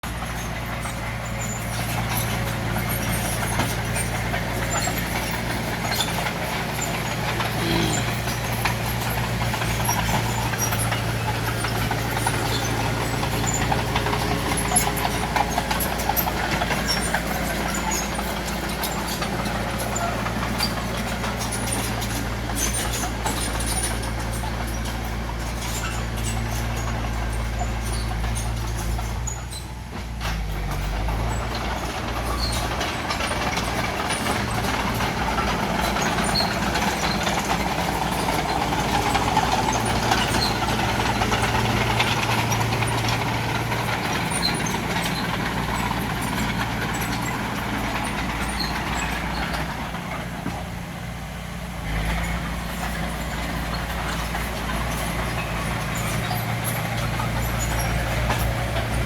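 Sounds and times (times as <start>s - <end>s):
heavy diesel engine running: 0.0s - 59.0s
light clicks and clanks: 0.2s - 50.8s, 51.8s - 59.0s.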